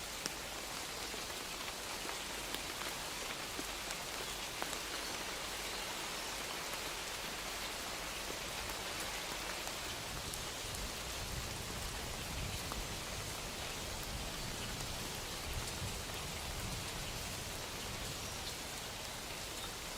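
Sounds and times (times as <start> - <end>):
gentle rain hiss: 0.0 - 19.9.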